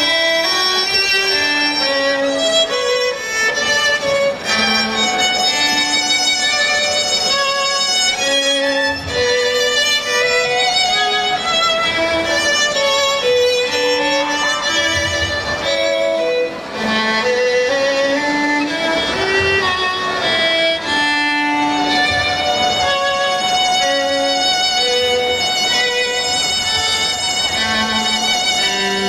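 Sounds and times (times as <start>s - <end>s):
violin duo playing: 0.0s - 29.0s.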